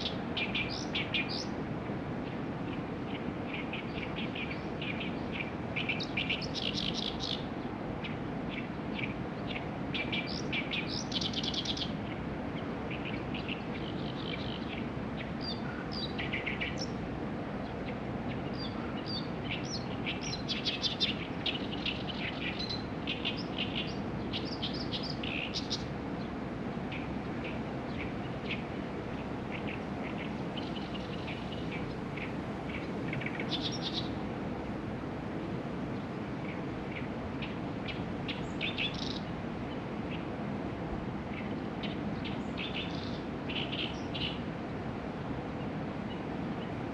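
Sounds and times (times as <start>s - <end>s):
low background hiss: 0.0s - 46.9s
songbirds chirping: 0.0s - 46.9s.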